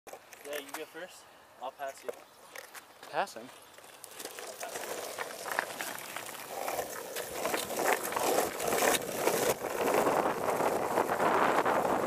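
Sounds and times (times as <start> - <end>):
longboard wheels rolling on asphalt: 0.1 - 12.0.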